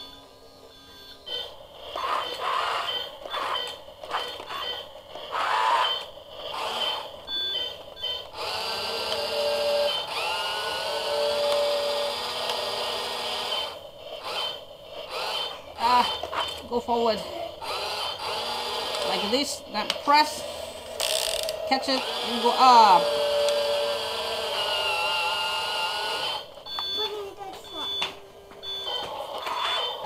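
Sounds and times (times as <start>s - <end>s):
electric motor whine: 0.0s - 26.6s.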